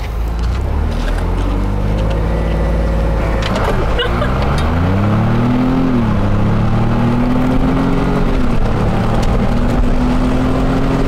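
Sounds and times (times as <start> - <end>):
engine accelerating hard: 0.4 - 11.0.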